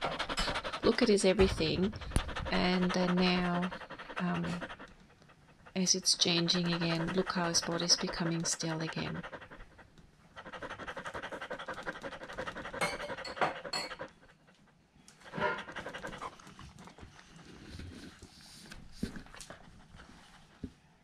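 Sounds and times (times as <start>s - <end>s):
dog panting: 0.0s - 20.5s.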